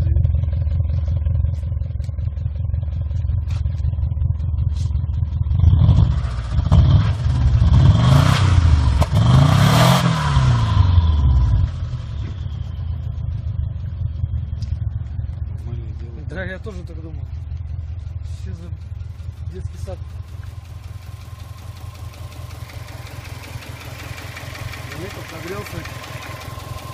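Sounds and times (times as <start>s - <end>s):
engine knocking: 0.0s - 8.2s, 10.6s - 26.9s
car engine idling and revving: 0.0s - 26.9s.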